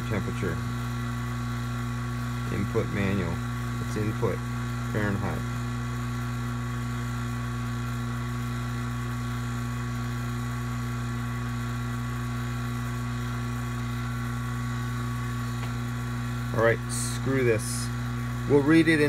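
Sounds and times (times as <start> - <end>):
vacuum pump humming: 0.0 - 19.0.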